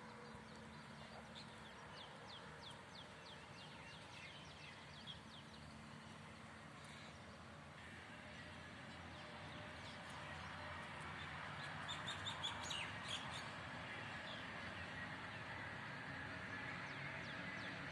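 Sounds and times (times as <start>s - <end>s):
songbirds chirping: 0.0s - 17.9s.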